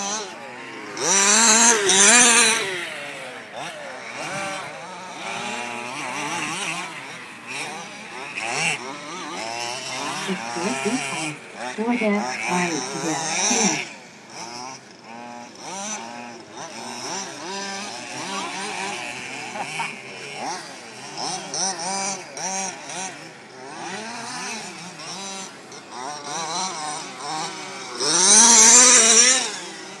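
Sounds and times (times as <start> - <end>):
rc buggy engines revving: 0.0 - 30.0.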